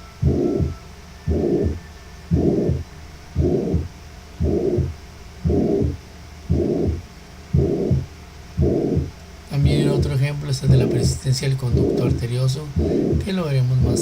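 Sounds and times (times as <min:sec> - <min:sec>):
heartbeat through stethoscope: 0:00.0 - 0:14.0.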